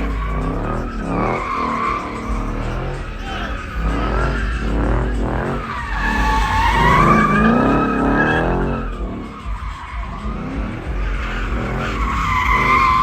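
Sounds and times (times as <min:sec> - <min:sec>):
car engine running: 0:00.0 - 0:13.0
car tyres squealing: 0:00.0 - 0:13.0.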